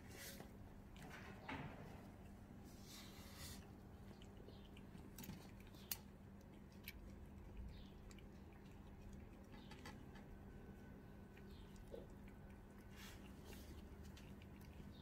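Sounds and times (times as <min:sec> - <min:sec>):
cats chewing and licking: 0:00.0 - 0:15.0
faint low hum: 0:00.0 - 0:15.0.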